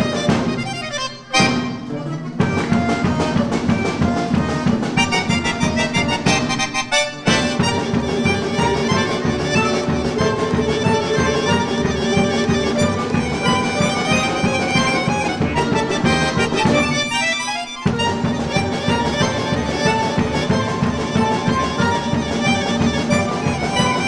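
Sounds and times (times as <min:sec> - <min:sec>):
button accordion: 0:00.0 - 0:24.0
plucked lutes: 0:00.0 - 0:24.0
steady rhythmic pulse: 0:00.0 - 0:24.0.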